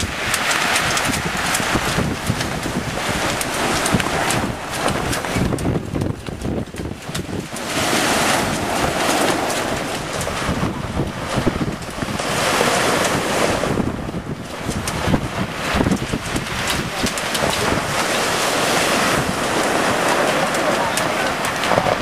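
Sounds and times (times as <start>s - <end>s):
choppy water and waves: 0.0s - 22.0s
wind buffeting microphone: 0.0s - 22.0s.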